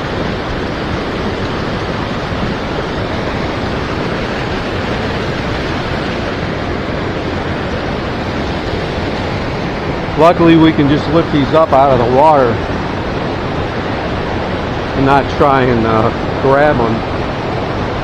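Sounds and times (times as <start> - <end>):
shallow river rushing: 0.0 - 18.0.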